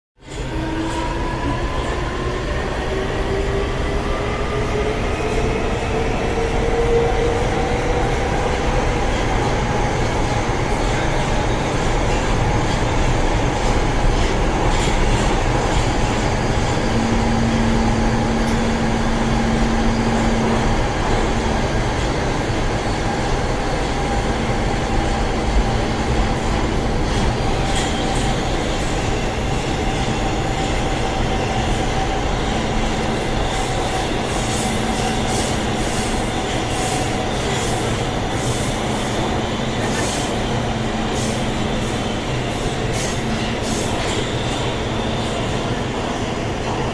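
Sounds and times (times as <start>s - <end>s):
train wheels rumbling on rails: 0.2s - 46.9s.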